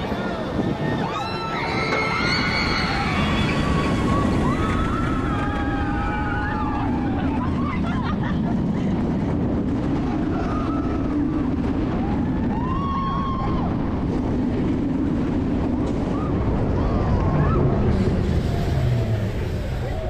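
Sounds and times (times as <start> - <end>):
steady low rumble: 0.0 - 20.0
wind buffeting microphone: 0.0 - 20.0.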